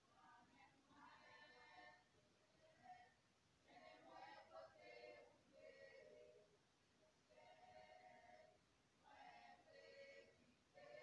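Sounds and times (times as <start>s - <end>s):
women singing a hymn: 0.0s - 11.0s.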